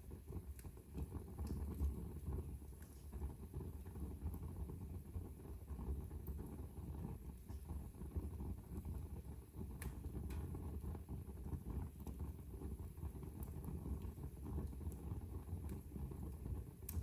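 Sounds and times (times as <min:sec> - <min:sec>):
low rumble of flames: 0:00.0 - 0:17.0
sharp fire crackles: 0:00.0 - 0:17.0.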